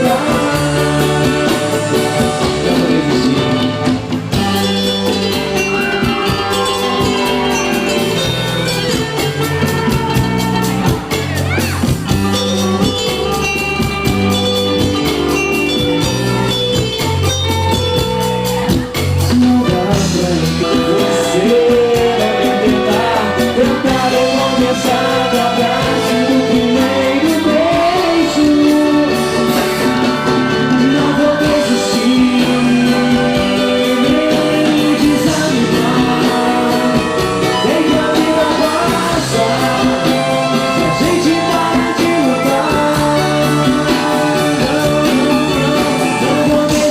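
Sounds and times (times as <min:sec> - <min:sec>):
bass line: 0:00.0 - 0:46.9
live band playing: 0:00.0 - 0:46.9
steady drum beat: 0:00.0 - 0:46.9.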